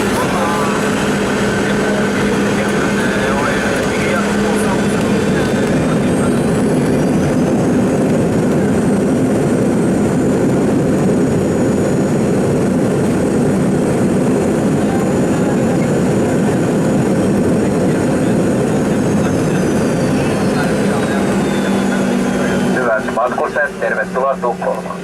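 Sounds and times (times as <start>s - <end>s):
faint high engine whine: 0.0s - 25.0s
jet engine low rumble: 0.0s - 25.0s.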